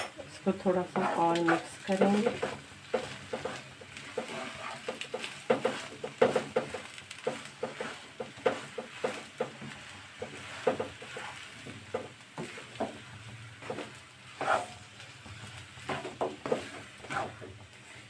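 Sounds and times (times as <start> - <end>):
spatula scraping a pan: 0.0 - 18.0.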